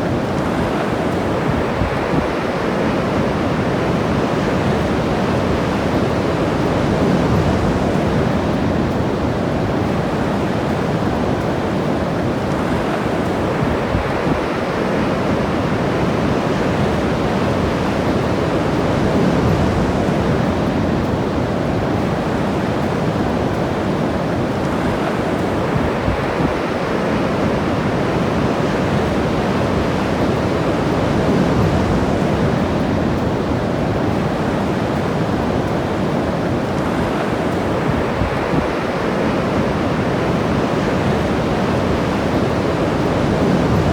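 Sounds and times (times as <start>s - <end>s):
ocean waves breaking: 0.0s - 43.9s
wind on microphone: 0.0s - 43.9s.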